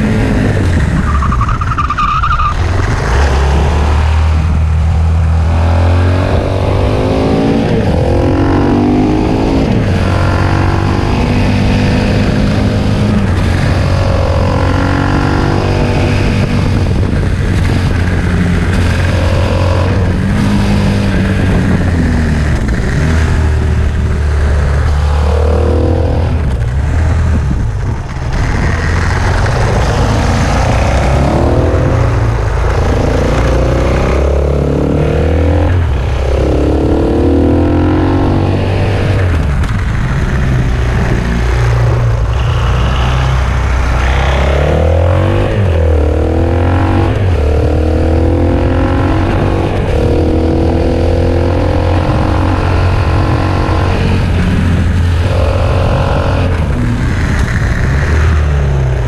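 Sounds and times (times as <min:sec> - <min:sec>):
motorcycle engine revving: 0:02.5 - 0:59.0.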